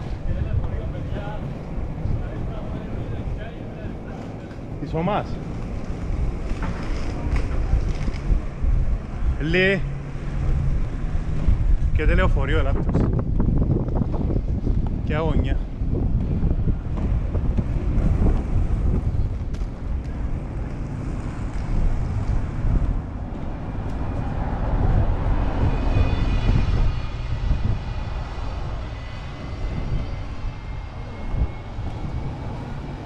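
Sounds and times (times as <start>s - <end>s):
inline skates rolling on asphalt: 0.0s - 12.0s, 15.6s - 33.0s
bus passing with high whine: 0.0s - 33.0s
wind rushing over microphone: 0.0s - 33.0s.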